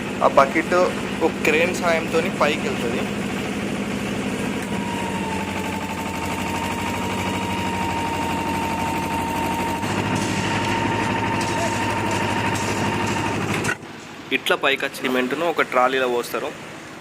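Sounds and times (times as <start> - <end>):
engine chugging: 0.0 - 13.8
steady high whine: 0.0 - 14.4.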